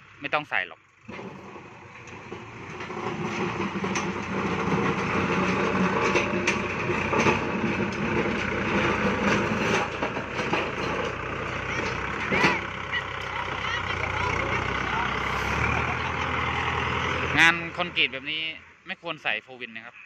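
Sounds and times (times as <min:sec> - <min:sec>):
tractor diesel engine under load: 0:00.0 - 0:18.8.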